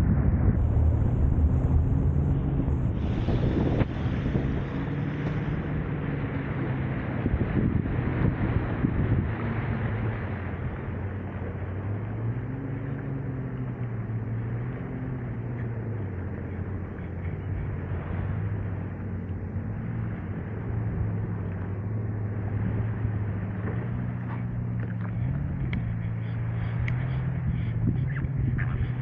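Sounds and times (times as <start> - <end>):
jet ski engine running: 0.0 - 29.0.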